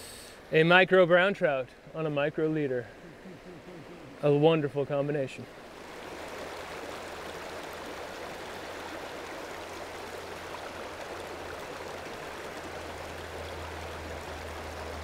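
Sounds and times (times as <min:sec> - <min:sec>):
rocky stream flowing: 0:00.5 - 0:15.0.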